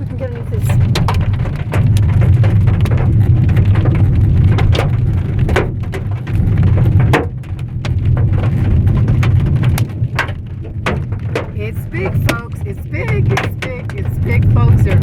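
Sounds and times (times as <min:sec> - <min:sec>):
car rumble: 0:00.0 - 0:15.0
hailstones pelting car roof: 0:00.0 - 0:15.0.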